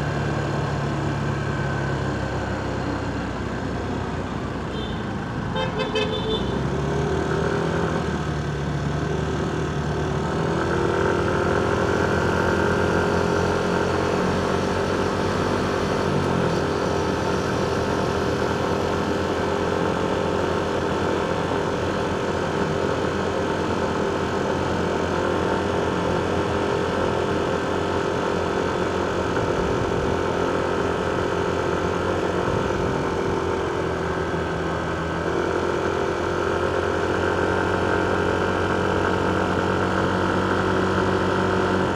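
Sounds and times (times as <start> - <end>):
road traffic: 0.0 - 41.9
motorcycle engine running: 5.6 - 41.9.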